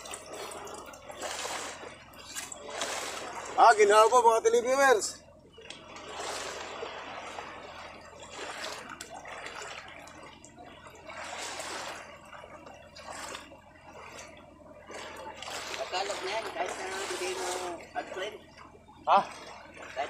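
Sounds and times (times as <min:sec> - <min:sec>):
waves lapping against boat hull: 0:00.0 - 0:20.0.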